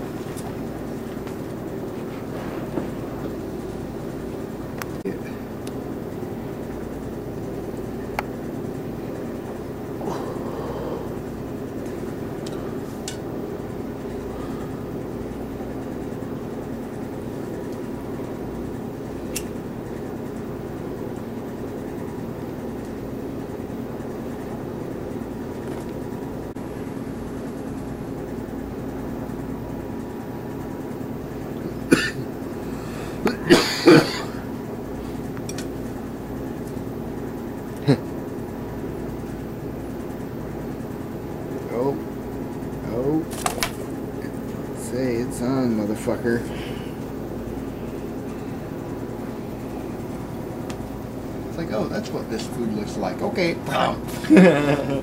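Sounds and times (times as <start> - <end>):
low background hum: 0.0 - 55.0.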